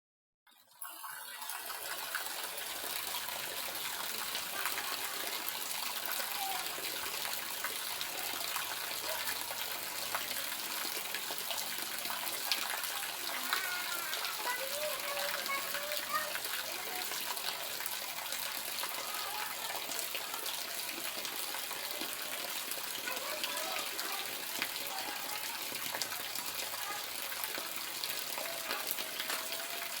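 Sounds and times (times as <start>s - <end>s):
light rain falling: 0.8s - 30.0s
raindrops ticking: 4.0s - 30.0s.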